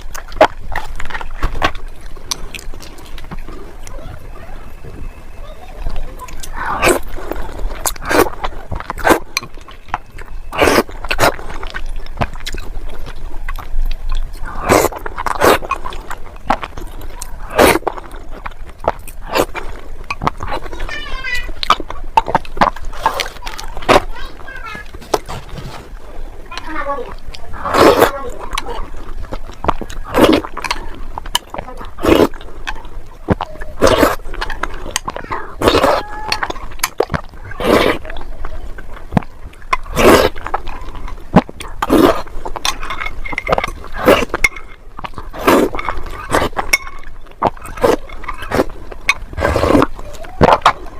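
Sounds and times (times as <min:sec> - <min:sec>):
wet slurping and biting: 0:00.0 - 0:03.9, 0:05.8 - 0:50.9
chewing and crunching food: 0:00.0 - 0:50.9
mouth clicks: 0:00.0 - 0:50.9.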